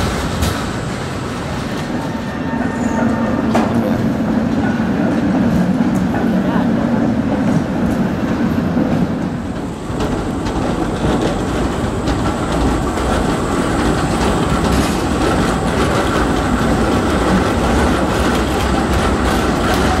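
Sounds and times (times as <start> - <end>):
tram wheels clacking on rails: 0.0 - 20.0.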